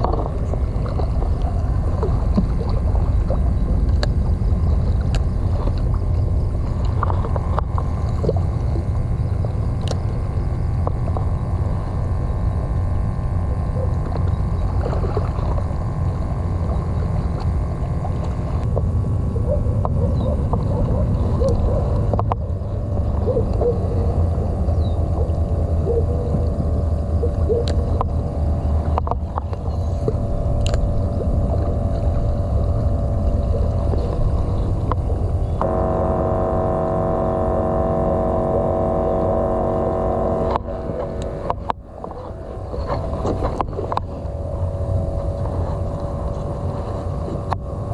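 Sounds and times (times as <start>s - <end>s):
boat engine droning: 0.0s - 47.9s
stronger droning tones: 0.0s - 47.9s.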